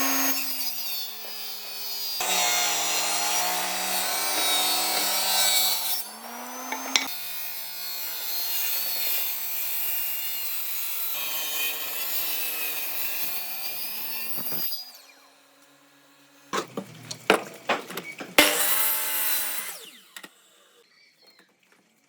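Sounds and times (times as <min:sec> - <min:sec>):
power tool motor humming: 0:00.0 - 0:20.8.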